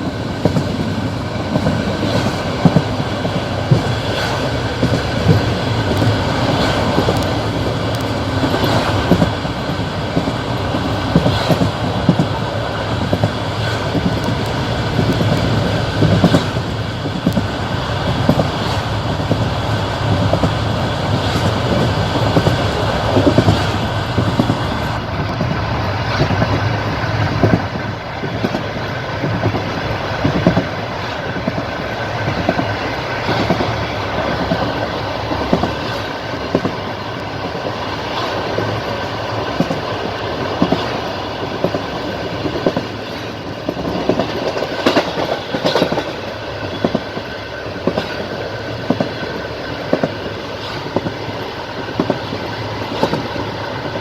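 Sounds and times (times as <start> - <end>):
train carriage rumble: 0.0 - 54.0
wheels clicking over rail joints: 0.3 - 54.0.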